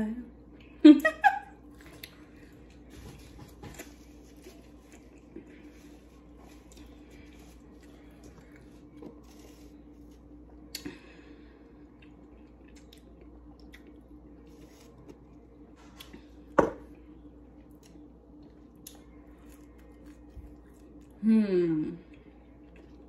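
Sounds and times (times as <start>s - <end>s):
low steady hum: 0.0s - 23.0s
soft chewing: 1.6s - 21.2s, 22.0s - 23.0s.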